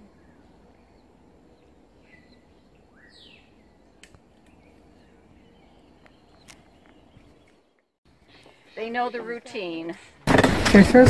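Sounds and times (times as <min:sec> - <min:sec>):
bird calls: 0:00.0 - 0:10.2.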